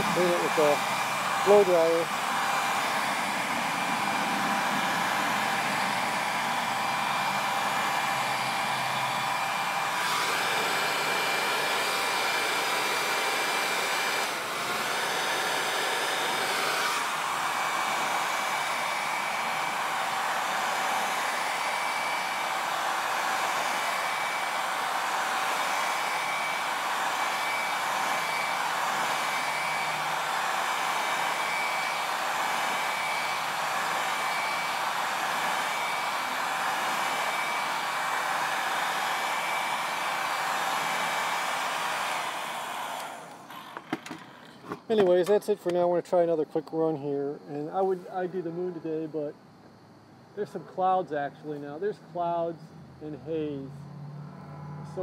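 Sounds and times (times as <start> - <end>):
hair dryer blowing with motor whine: 0.0 - 44.8, 50.4 - 55.0.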